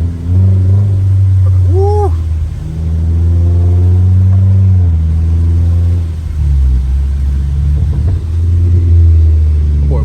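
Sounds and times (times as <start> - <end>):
car engine and exhaust: 0.0 - 10.0
exhaust popping: 0.0 - 10.0.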